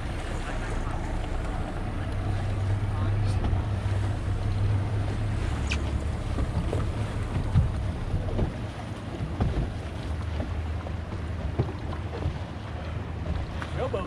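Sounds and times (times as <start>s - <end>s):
wind buffeting microphone: 0.0s - 13.8s
boat engine running: 0.0s - 14.0s
water around hull: 0.0s - 14.0s.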